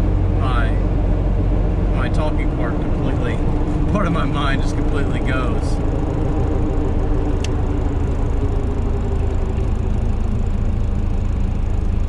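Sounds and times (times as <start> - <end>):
diesel engine driving: 0.0 - 12.0
road rumble: 0.0 - 12.0.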